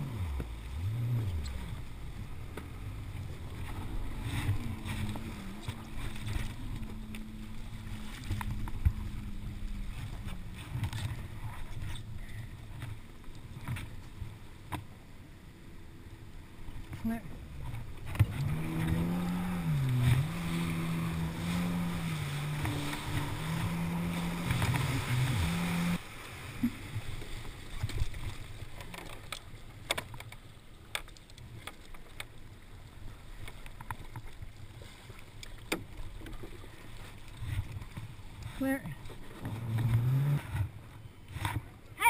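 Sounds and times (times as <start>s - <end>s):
jet ski engine droning: 0.0s - 42.0s
water rushing and splashing: 0.0s - 42.0s.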